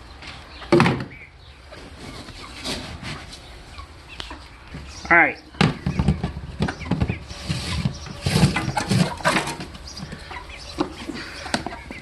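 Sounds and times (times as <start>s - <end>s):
chicken feed rattling: 0.1s - 12.0s.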